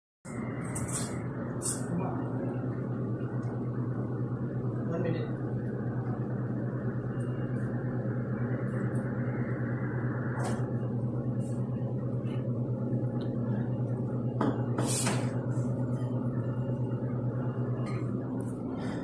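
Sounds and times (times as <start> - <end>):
espresso machine humming: 0.4 - 19.0.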